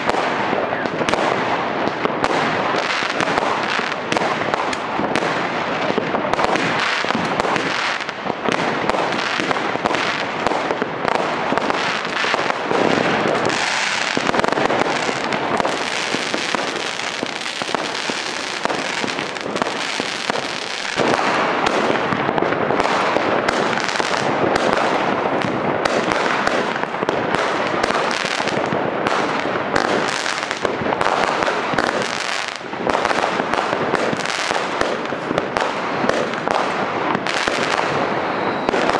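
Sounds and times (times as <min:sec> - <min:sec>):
fireworks crackling and banging: 0:00.0 - 0:38.9.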